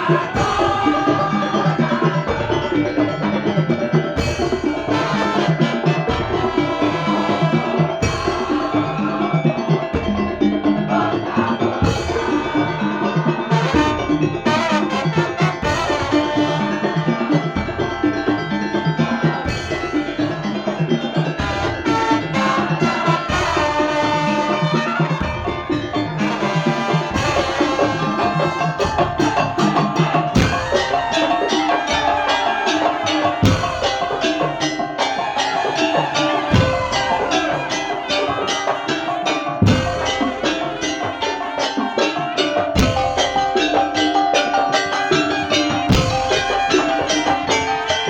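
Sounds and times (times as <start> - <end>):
percussion ensemble playing: 0.0 - 48.0.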